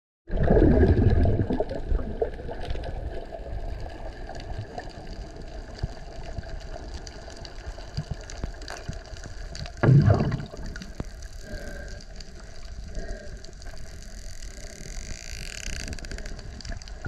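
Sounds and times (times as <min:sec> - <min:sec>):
muffled underwater rumble: 0:00.3 - 0:17.0.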